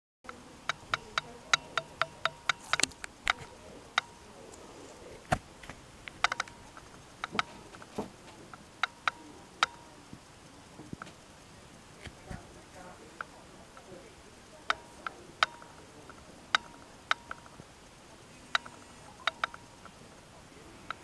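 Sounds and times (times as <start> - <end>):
sharp light clicks and taps: 0.3 - 4.2, 5.3 - 11.2, 12.0 - 17.7, 18.5 - 20.1.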